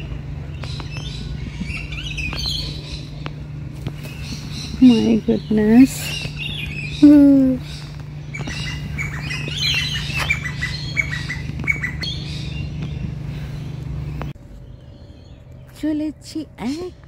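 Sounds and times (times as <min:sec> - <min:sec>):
birds chirping and squawking: 0:00.0 - 0:17.0
steady low hum: 0:00.0 - 0:17.0.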